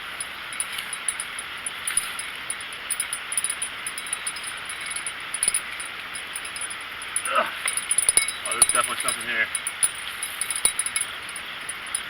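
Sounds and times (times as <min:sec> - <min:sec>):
small bell jingling: 0:00.0 - 0:12.0
steady background hiss: 0:00.0 - 0:12.0.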